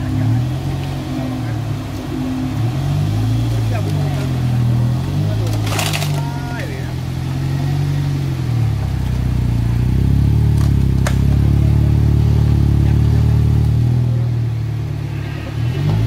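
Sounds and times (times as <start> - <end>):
off-road vehicle engine under load: 0.0 - 16.0.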